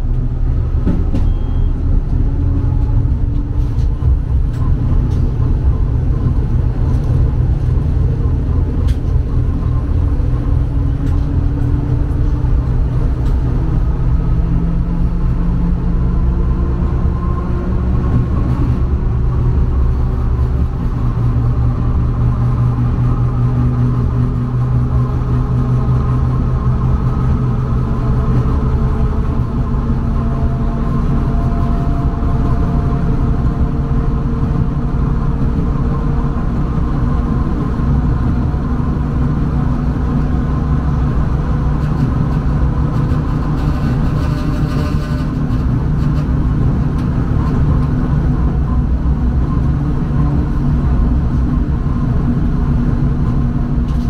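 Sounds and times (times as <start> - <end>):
tram low rumble: 0.0 - 54.0.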